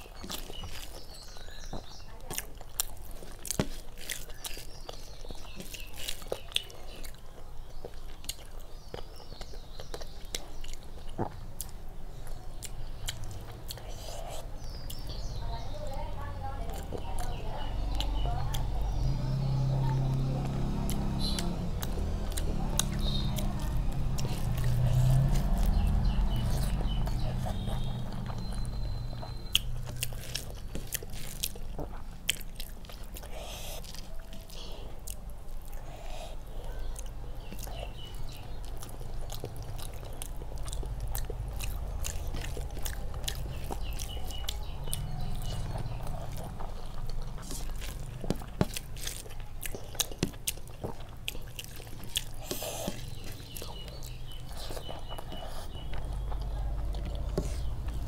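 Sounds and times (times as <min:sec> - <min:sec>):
chewing and mouth sounds: 0:00.0 - 0:58.0.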